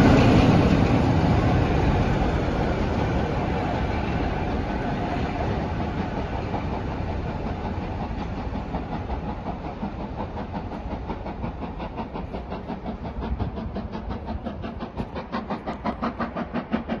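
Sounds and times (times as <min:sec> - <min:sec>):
train rumble: 0:00.0 - 0:17.0
wheels clickety-clack: 0:00.0 - 0:17.0.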